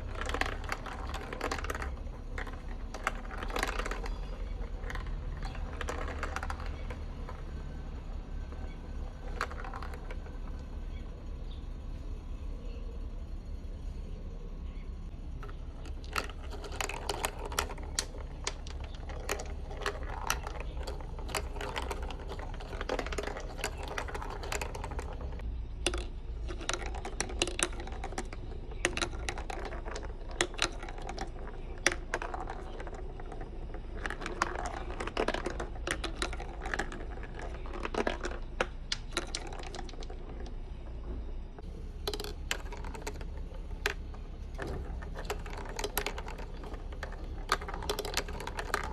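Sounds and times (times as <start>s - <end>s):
marbles clacking along a track: 0.0s - 12.6s, 15.1s - 48.9s
steady low hum: 6.8s - 48.9s.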